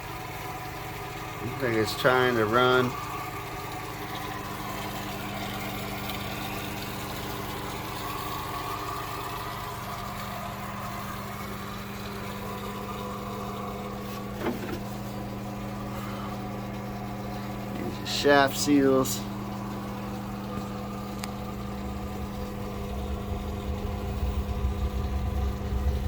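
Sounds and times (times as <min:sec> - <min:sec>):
engine room motor hum: 0:00.0 - 0:26.0.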